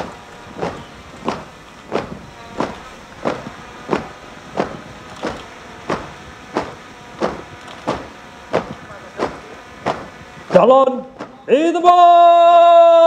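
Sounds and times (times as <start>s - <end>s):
sharp marching beat hits: 0.0s - 12.2s.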